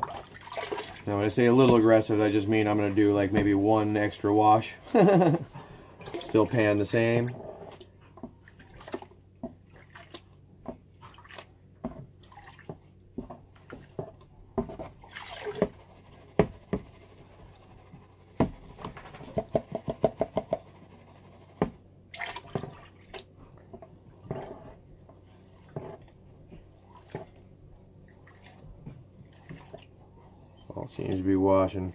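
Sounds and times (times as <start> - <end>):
water sloshing in plastic pan: 0.0 - 4.7, 5.9 - 17.6, 20.6 - 30.0.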